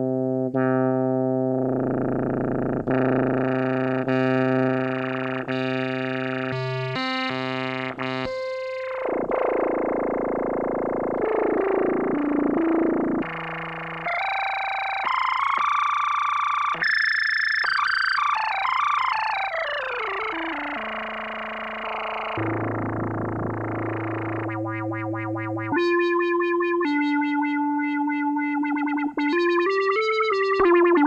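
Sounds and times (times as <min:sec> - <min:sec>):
buzzy synthesizer organ notes: 0:00.0 - 0:31.0.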